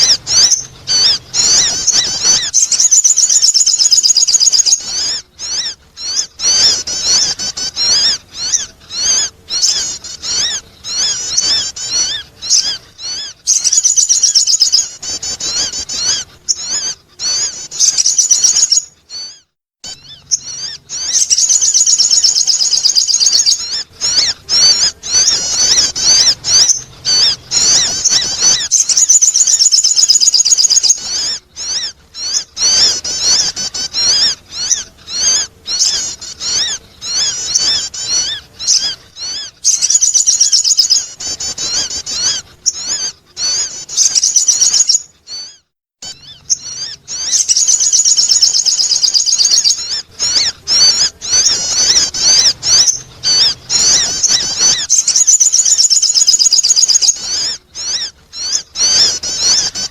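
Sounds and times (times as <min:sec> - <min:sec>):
bird chirping trills: 0:00.0 - 0:59.9.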